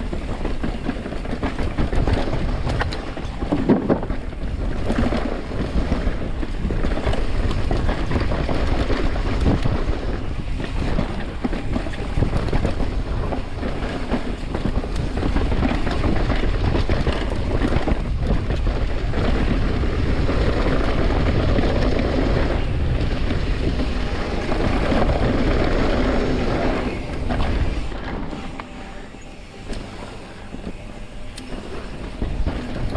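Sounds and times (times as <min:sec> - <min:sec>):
bike clattering and rattling: 0:00.0 - 0:32.9
bike tyres rolling over dirt: 0:00.0 - 0:32.9
wind buffeting microphone: 0:00.0 - 0:32.9.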